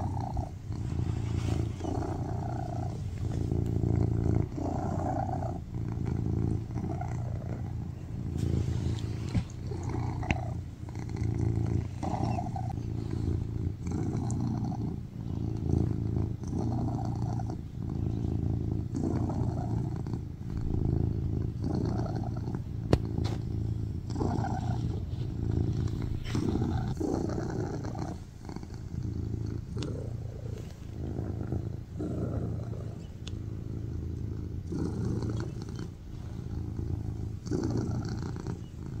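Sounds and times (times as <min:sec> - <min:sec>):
cat purring: 0:00.0 - 0:39.0.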